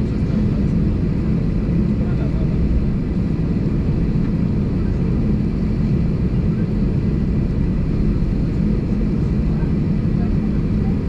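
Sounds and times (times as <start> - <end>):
airplane cabin rumble while taxiing: 0.0 - 11.0.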